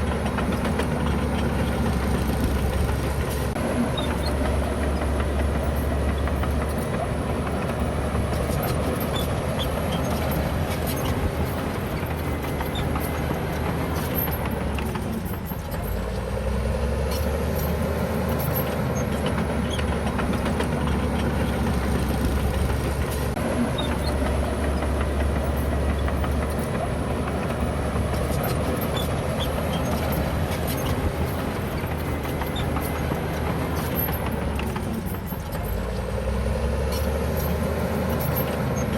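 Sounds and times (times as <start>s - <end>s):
heavy diesel machinery working: 0.0s - 38.9s.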